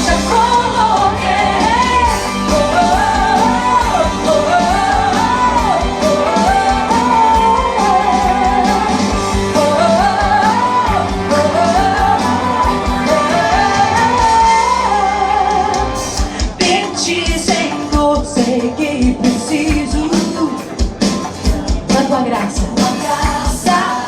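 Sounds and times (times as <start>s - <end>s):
steady drum beat: 0.0s - 14.9s, 15.6s - 24.0s
melodic lead line: 0.0s - 24.0s.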